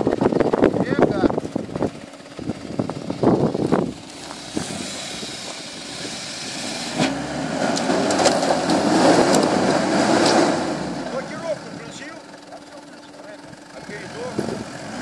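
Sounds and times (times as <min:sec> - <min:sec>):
engine working under load: 0:00.0 - 0:15.0.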